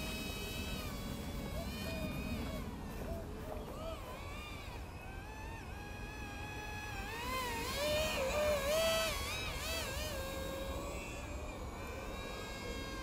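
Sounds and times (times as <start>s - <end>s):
model plane motor whining: 0.0s - 13.0s.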